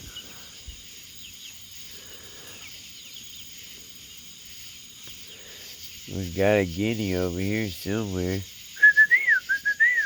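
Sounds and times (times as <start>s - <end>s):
crickets trilling: 0.0s - 10.0s
insects chirping: 0.0s - 10.0s.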